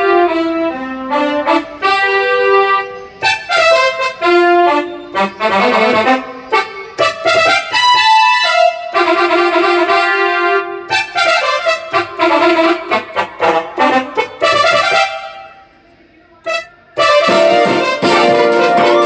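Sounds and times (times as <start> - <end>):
brass melody: 0.0 - 15.8, 16.4 - 19.0.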